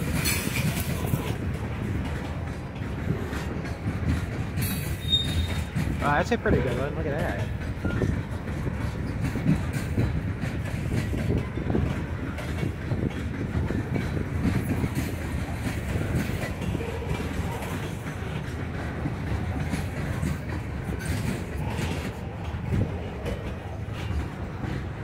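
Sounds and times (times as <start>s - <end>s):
freight train rumbling past: 0.0s - 25.0s
wheels clattering over track: 0.0s - 25.0s.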